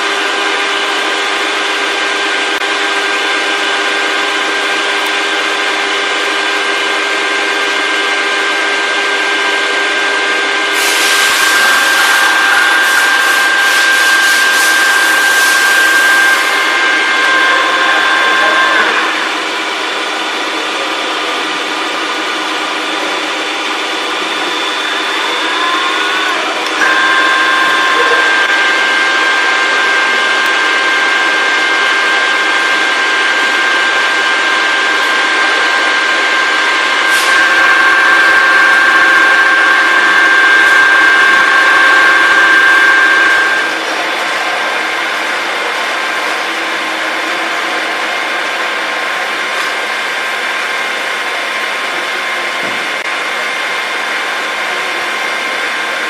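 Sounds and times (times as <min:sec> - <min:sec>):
drilling machine whine: 0:00.0 - 0:56.0.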